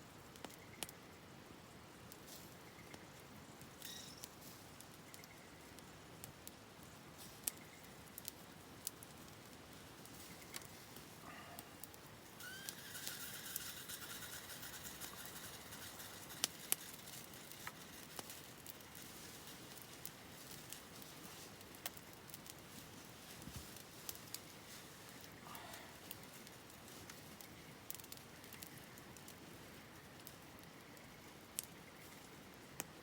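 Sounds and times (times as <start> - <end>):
campfire crackling and popping: 0.1 - 33.0.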